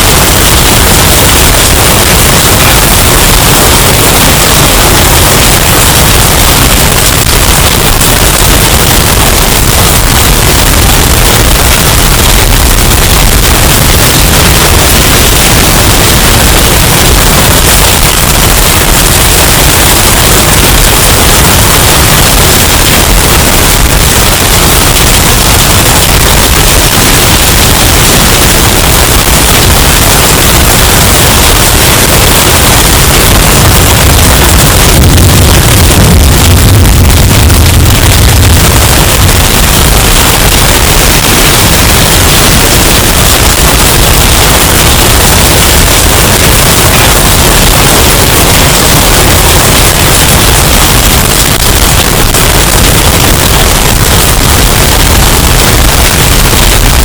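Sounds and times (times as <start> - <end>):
distorted hurricane wind: 0.0 - 57.0.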